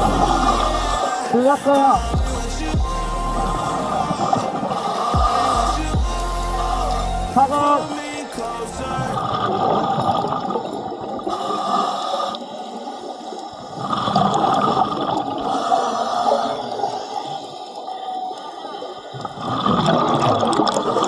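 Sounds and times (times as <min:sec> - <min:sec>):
water gurgling and bubbling: 0:00.0 - 0:07.8, 0:08.8 - 0:18.0, 0:18.8 - 0:21.0.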